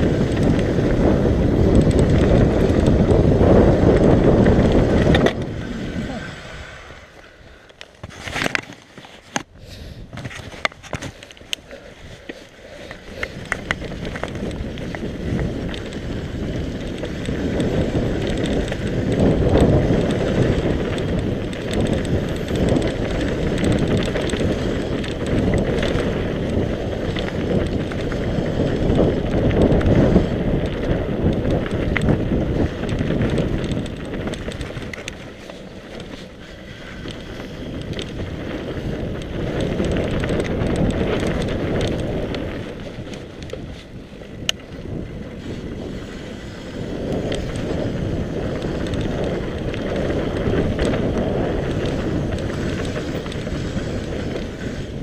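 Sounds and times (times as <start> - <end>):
bike clicks and rattles: 0.0 - 55.0
bike tyres rolling over dirt: 0.0 - 55.0
wind buffeting microphone: 0.0 - 55.0.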